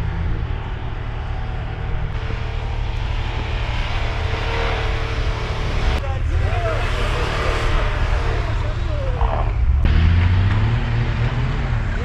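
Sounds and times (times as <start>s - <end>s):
dense low rumble: 0.0s - 12.0s
vehicle engine running: 0.0s - 12.0s.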